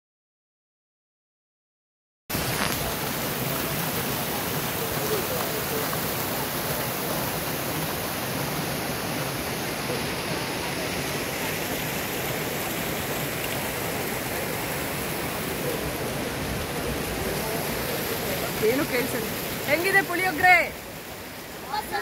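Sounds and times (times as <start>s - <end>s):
waterfall rushing over rock: 2.3s - 22.0s.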